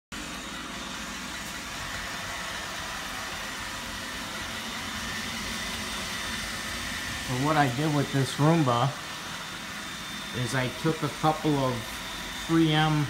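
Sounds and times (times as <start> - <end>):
robot vacuum motor hum: 0.2 - 13.0.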